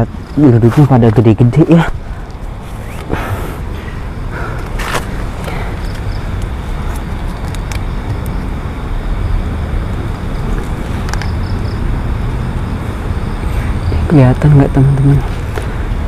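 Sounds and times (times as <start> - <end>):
wind noise rumble: 0.0 - 16.0.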